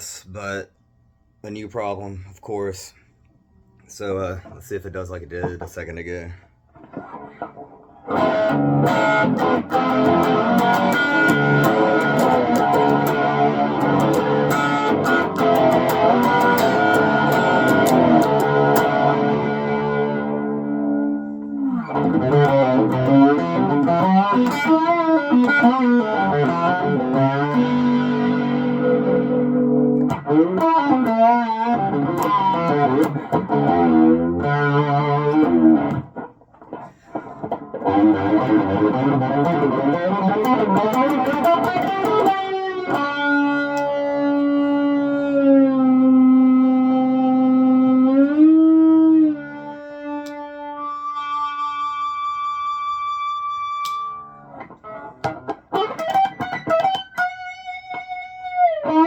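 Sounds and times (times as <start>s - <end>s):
distorted fretless electric guitar: 4.2s - 59.0s.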